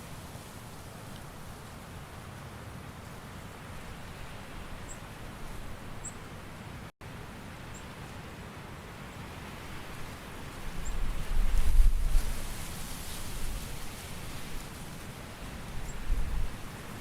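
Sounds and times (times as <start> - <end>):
soft outdoor hiss: 0.0 - 17.0.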